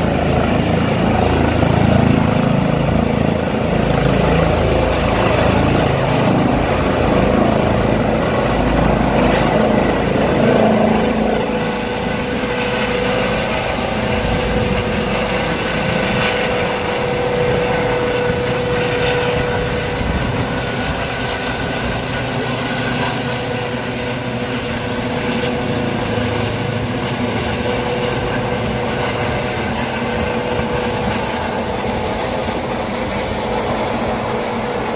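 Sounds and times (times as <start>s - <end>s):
helicopter rotor and turbine whine: 0.0s - 34.9s.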